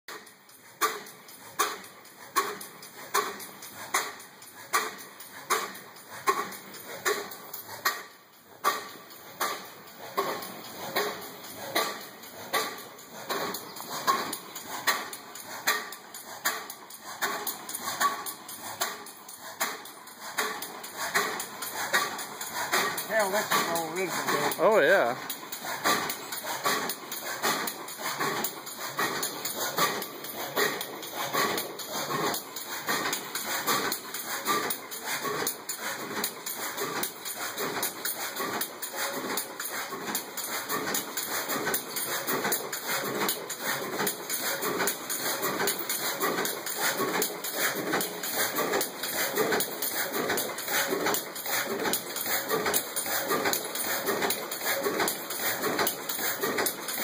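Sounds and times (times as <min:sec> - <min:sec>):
stationary gas engine running: 0:00.1 - 0:57.0.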